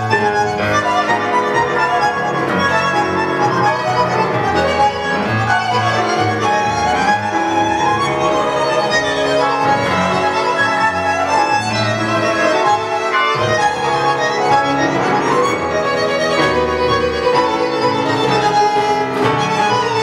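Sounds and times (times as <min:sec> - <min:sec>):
bandoneon: 0:00.0 - 0:20.0
violin melody: 0:00.0 - 0:20.0.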